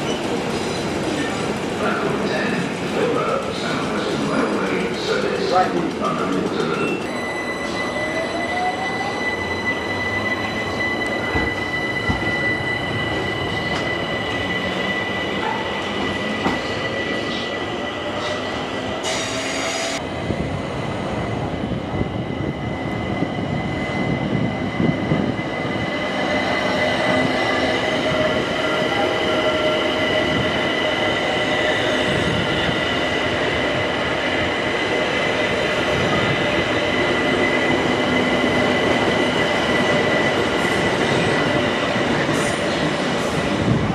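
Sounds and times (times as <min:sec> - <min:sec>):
train running on rails: 0:00.0 - 0:43.9
train whine: 0:00.0 - 0:43.9.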